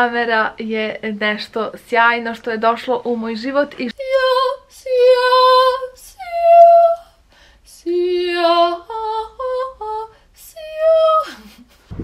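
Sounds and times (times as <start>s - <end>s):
woman singing unaccompanied: 0.0s - 11.6s.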